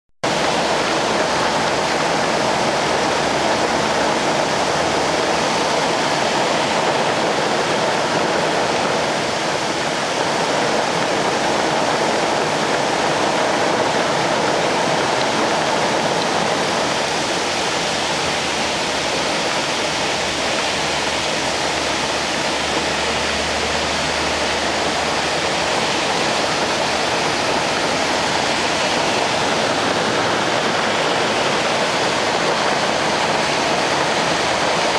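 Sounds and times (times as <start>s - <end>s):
cars driving through water: 0.2s - 34.9s
heavy rain: 0.2s - 34.9s
runoff water pouring: 0.2s - 34.9s.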